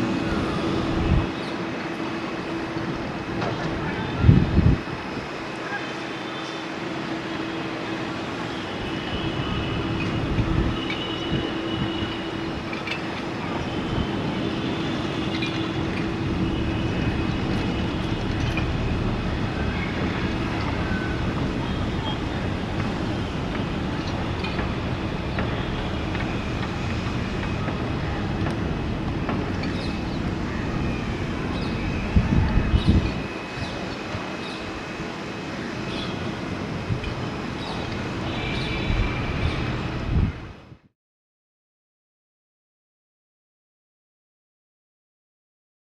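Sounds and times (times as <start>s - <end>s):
distant jet engines rumbling: 0.0s - 40.7s.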